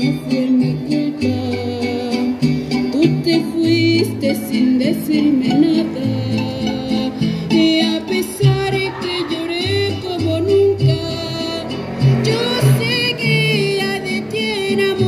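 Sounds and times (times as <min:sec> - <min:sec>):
mariachi band playing: 0:00.0 - 0:15.0
woman singing: 0:00.0 - 0:15.0.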